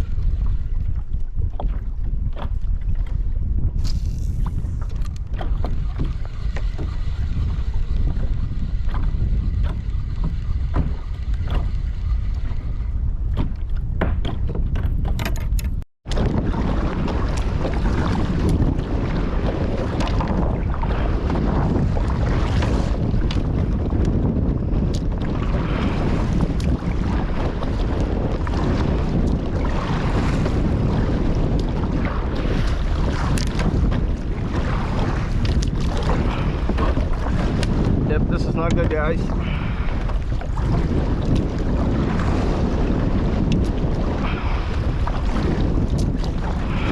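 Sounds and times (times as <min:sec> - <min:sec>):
water splashing against kayak: 0:00.0 - 0:46.9
wind rumbling on microphone: 0:00.0 - 0:46.9.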